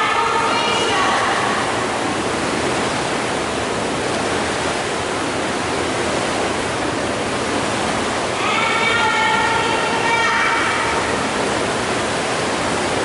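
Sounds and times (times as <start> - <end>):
churning water from paddling: 0.0 - 13.0.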